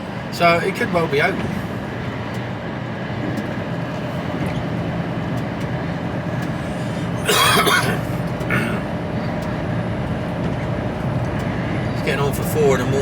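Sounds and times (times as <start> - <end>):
lorry engine drone: 0.0 - 13.0.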